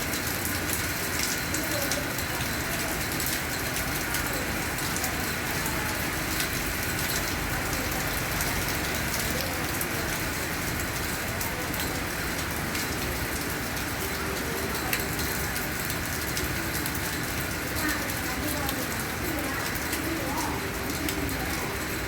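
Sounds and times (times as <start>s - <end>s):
rain on hard surfaces: 0.0s - 22.0s.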